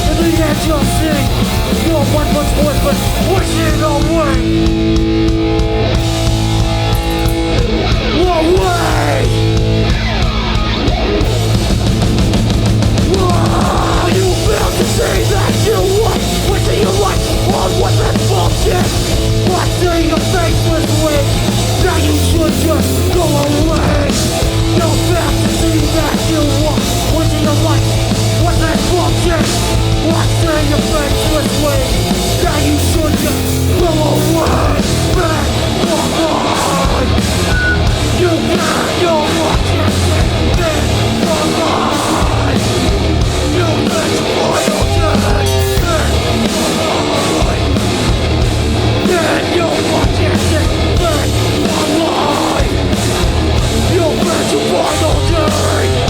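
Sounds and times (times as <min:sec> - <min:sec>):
punk band playing live: 0:00.0 - 0:56.0.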